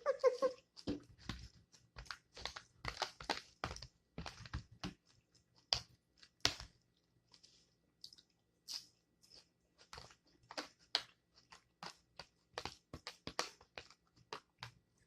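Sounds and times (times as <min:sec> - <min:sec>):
chewing and crunching chips: 0:00.0 - 0:15.0.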